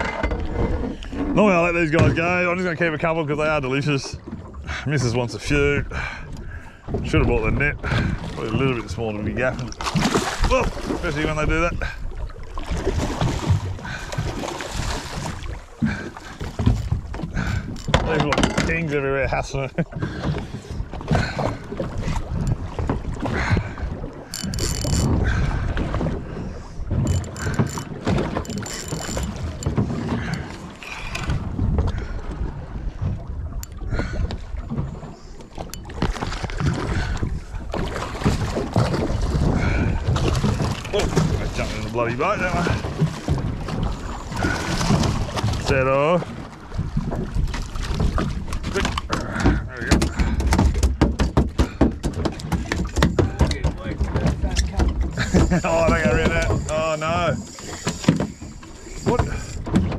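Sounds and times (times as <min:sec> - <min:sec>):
water around boat: 0:00.0 - 0:59.9
wind: 0:00.0 - 0:59.9.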